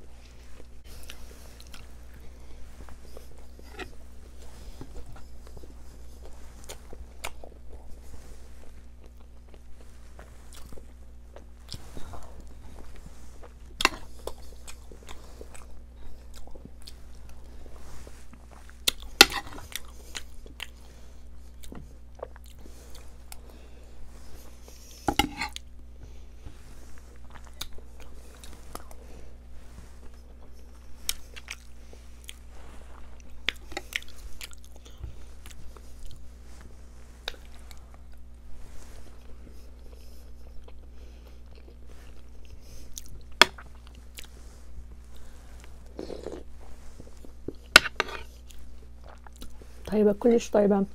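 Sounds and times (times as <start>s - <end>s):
low steady hum: 0.0s - 50.9s
chewing and mouth sounds: 0.2s - 23.5s, 27.0s - 29.0s, 30.0s - 36.2s, 39.2s - 44.4s, 45.0s - 49.8s.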